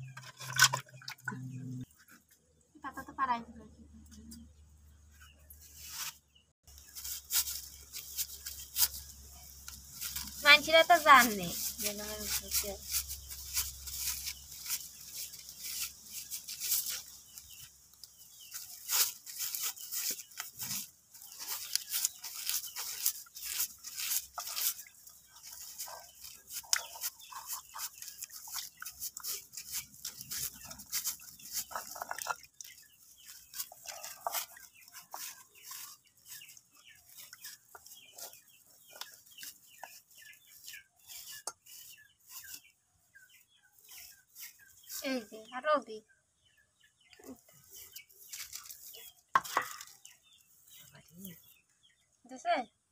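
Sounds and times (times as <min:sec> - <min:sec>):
scraping on gritty ground: 0:05.4 - 0:45.5, 0:47.2 - 0:51.6.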